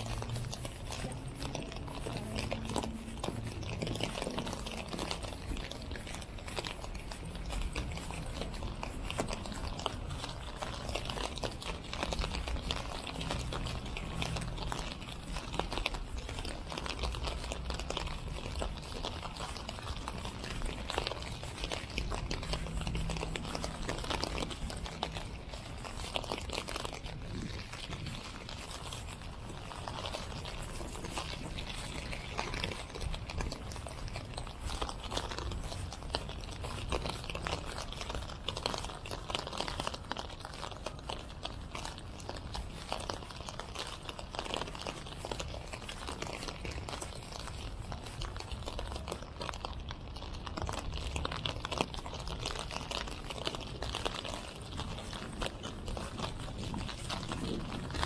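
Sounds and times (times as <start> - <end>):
rain on wet ground: 0.0 - 58.0.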